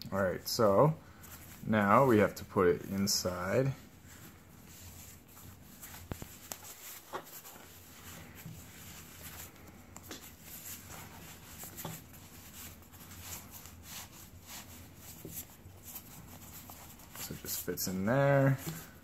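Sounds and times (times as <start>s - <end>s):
fabric rubbing and rustling: 0.2s - 19.0s.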